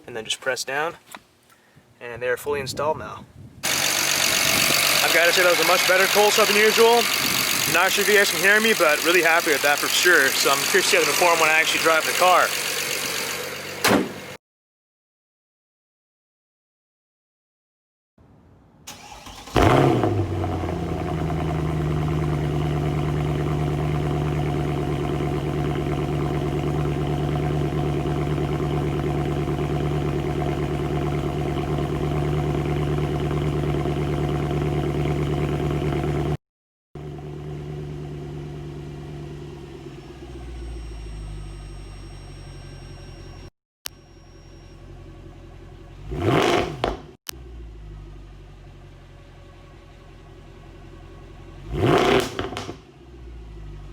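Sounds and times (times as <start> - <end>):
car engine starting and idling: 3.6 - 14.4, 18.9 - 36.4, 37.0 - 53.9.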